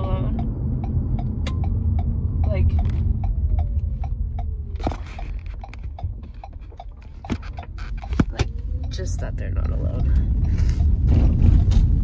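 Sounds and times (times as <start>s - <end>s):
car cabin road rumble: 0.0s - 12.0s
light regular ticking: 0.2s - 12.0s.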